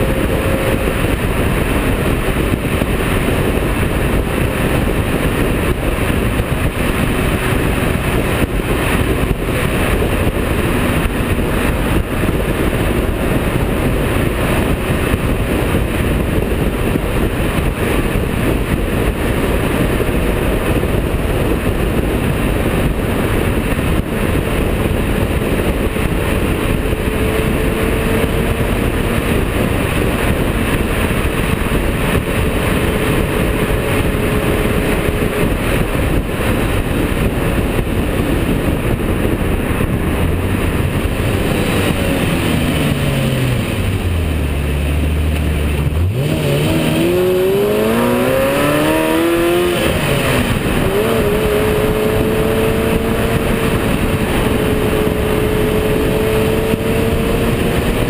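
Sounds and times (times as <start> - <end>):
car engine running: 0.0 - 58.0
wind rush: 0.0 - 58.0.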